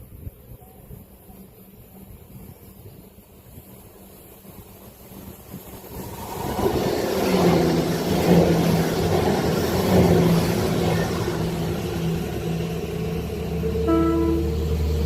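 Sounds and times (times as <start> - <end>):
rumble of wheels on rails: 0.0 - 15.0
train engine running: 0.0 - 15.0.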